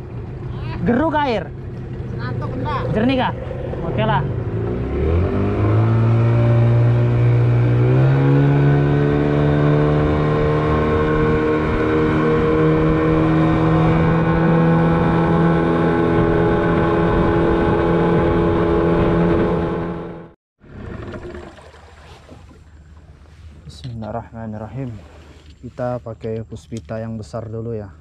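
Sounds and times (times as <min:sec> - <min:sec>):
boat motor running: 0:00.0 - 0:24.1.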